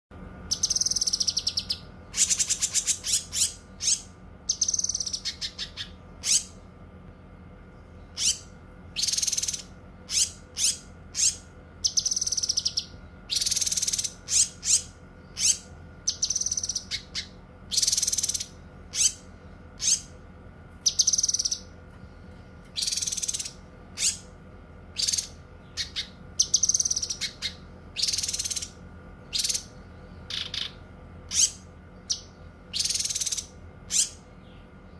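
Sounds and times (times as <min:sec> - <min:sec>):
faint steady hum: 0:00.1 - 0:34.9
bird whistling and trilling: 0:00.5 - 0:06.6, 0:08.1 - 0:19.2, 0:20.8 - 0:21.7, 0:22.8 - 0:24.3, 0:25.0 - 0:29.7, 0:30.3 - 0:34.2.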